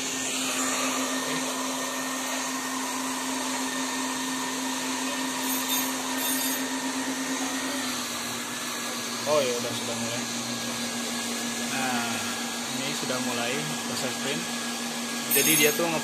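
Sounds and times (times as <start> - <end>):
suction fan humming and hissing: 0.0 - 16.0.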